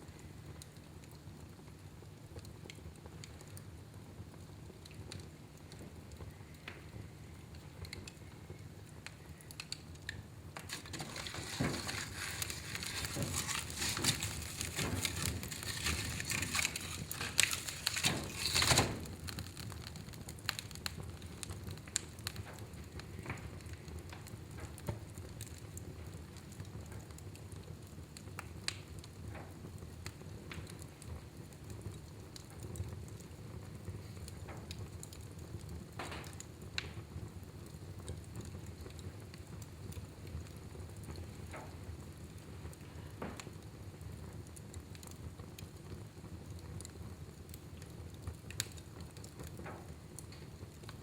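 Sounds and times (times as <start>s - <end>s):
fire crackling and popping: 0.0s - 51.0s
soft fire hiss: 0.0s - 51.0s.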